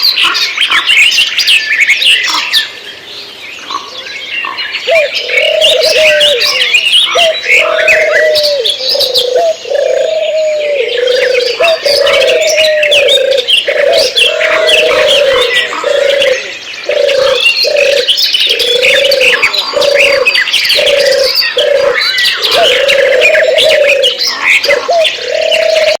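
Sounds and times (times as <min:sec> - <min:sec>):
chorus of birds chirping: 0:00.0 - 0:26.0
low repeated bird call: 0:00.0 - 0:26.0.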